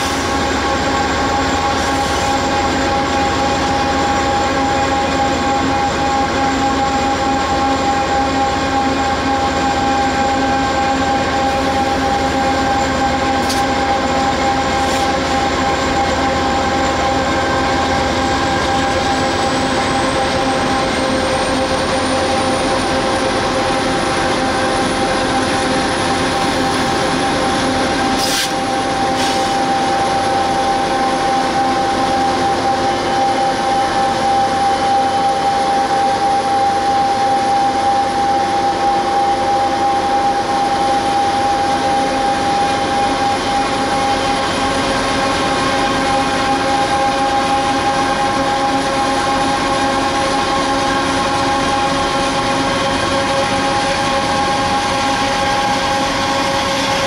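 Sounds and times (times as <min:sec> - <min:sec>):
diesel locomotive droning: 0:00.0 - 0:57.0.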